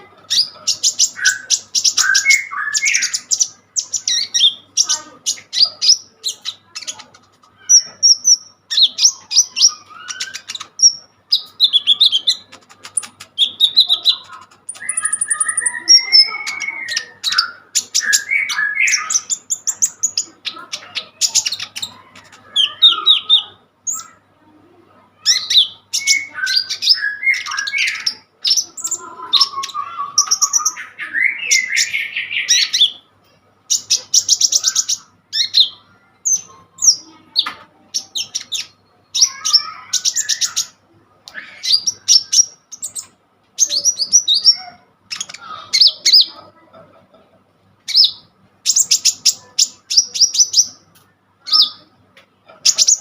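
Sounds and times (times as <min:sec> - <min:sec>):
songbird singing: 0:00.0 - 0:24.3, 0:25.1 - 0:46.8, 0:47.9 - 0:53.0.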